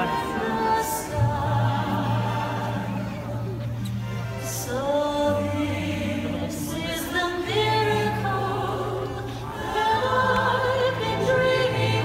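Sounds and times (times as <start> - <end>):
choir singing held notes: 0.0 - 12.0
low musical accompaniment: 0.0 - 12.0.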